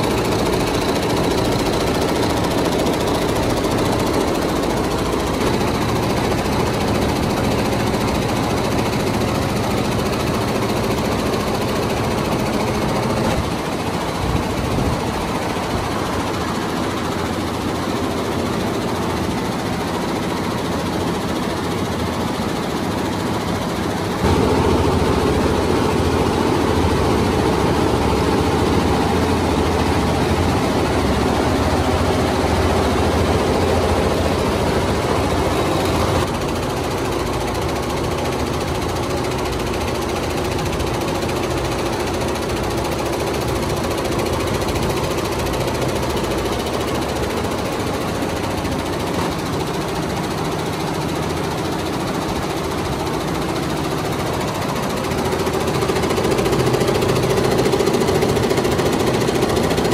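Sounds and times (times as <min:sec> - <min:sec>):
embroidery machines clattering: 0:00.0 - 0:59.9.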